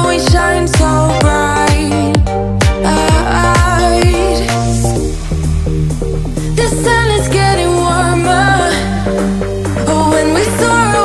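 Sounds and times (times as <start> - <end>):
background pop music: 0.0 - 11.0.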